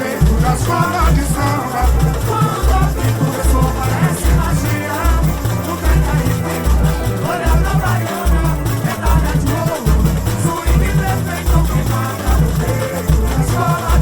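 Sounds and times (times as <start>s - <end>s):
heavy low drum beat: 0.0s - 14.0s
samba percussion band: 0.0s - 14.0s.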